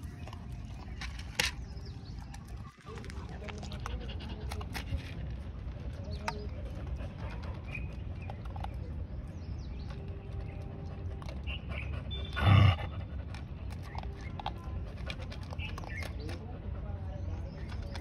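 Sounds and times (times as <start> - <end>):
dog crunching dry kibble: 0.0 - 16.7, 17.4 - 18.0.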